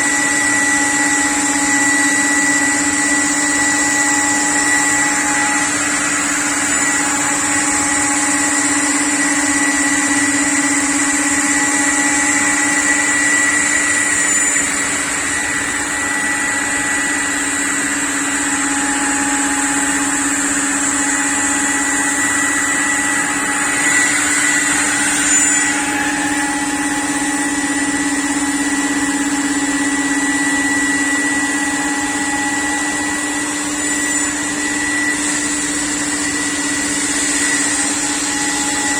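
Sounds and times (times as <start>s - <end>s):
cnc router cutting: 0.0s - 38.9s.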